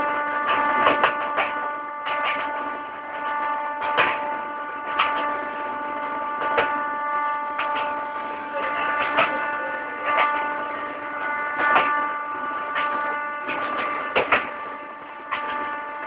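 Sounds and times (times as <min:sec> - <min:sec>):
multi-pitched whine: 0:00.0 - 0:16.0.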